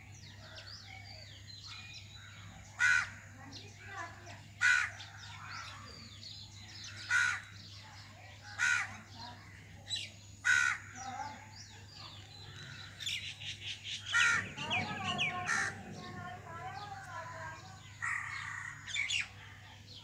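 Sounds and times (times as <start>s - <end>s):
bird harsh calls: 0.3s - 19.6s.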